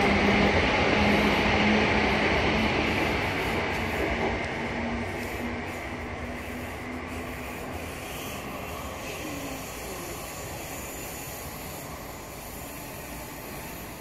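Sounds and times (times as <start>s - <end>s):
low train hum: 0.0s - 14.0s
train running on rails: 0.0s - 14.0s.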